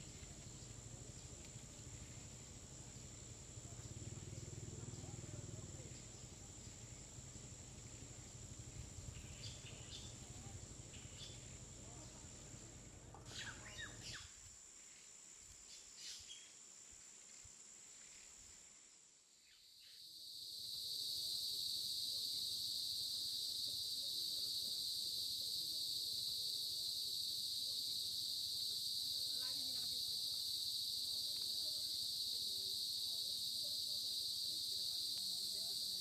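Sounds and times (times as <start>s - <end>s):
high insect drone: 0.0s - 36.0s
night insect chorus buzzing: 0.0s - 36.0s.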